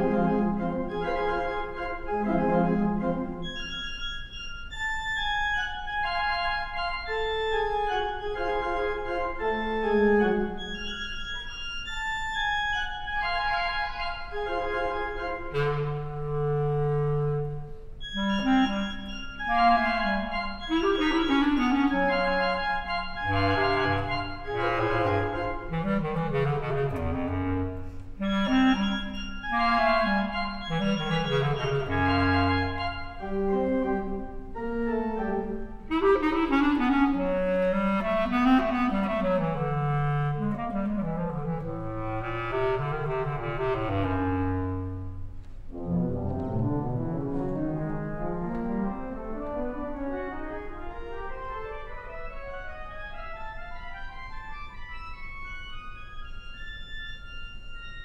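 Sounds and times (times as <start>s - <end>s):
bass clarinet: 0.0s - 58.0s.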